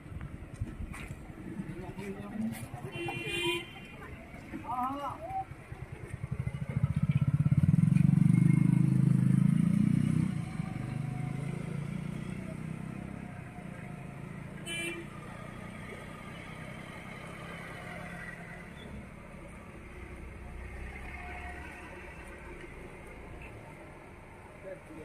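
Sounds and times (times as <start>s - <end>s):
low traffic hum: 0.0s - 25.0s.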